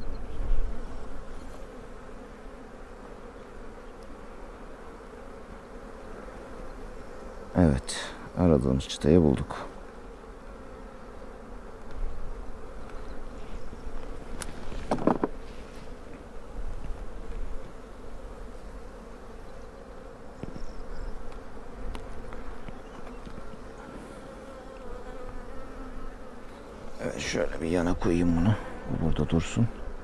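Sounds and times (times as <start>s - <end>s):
honeybees buzzing: 0.0s - 30.0s.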